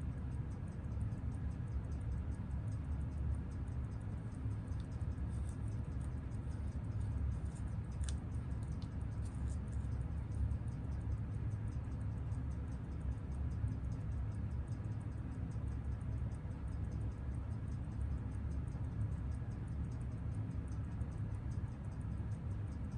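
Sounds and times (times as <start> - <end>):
watch movement ticking: 0.0 - 22.9.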